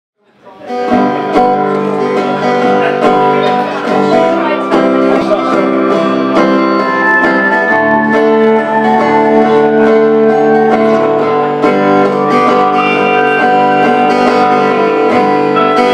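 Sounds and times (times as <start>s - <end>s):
strummed guitars: 0.5s - 15.9s.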